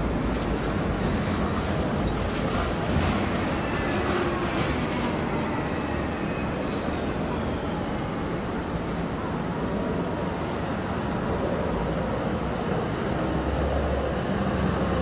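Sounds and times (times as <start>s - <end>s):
tram wheels clicking over rails: 0.0s - 13.6s
street traffic rumble: 0.0s - 15.0s.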